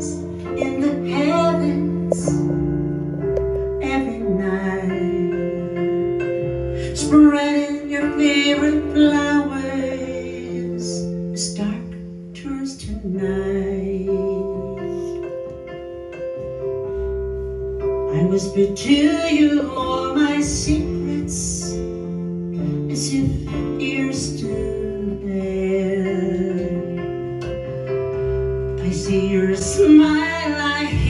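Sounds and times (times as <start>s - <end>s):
woman singing slow ballad: 0.0s - 15.8s, 17.9s - 27.8s, 28.7s - 31.0s
electric keyboard chords: 0.0s - 31.0s.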